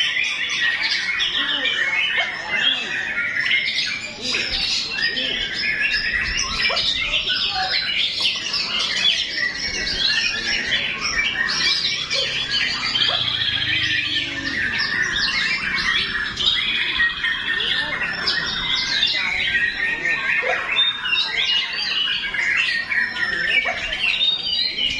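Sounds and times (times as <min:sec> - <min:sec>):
songbird whistling song: 0:00.0 - 0:24.9.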